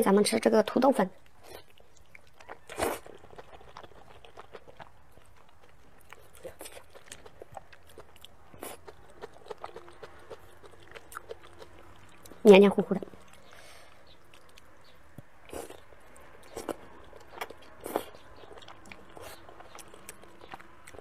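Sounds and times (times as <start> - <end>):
person chewing with wet mouth clicks: 1.2 - 12.4, 14.1 - 21.0.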